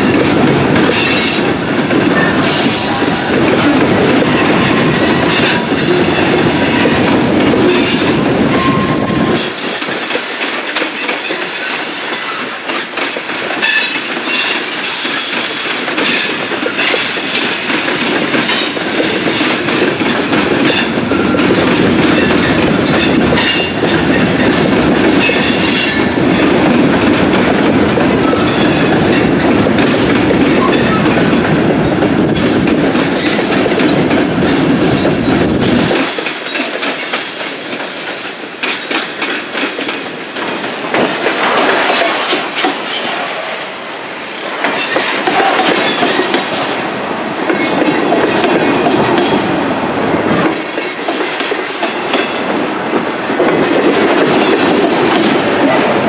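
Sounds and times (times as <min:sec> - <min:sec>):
train wheels clattering over rail joints: 0:00.0 - 0:56.0.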